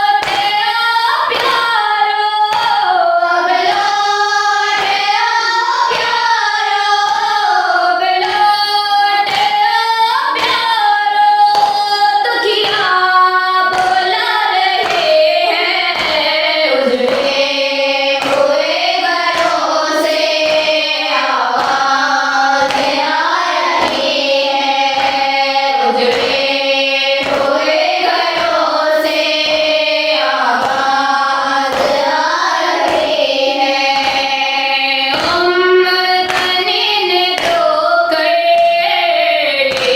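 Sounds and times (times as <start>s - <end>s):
voices singing a lament: 0.0s - 39.9s.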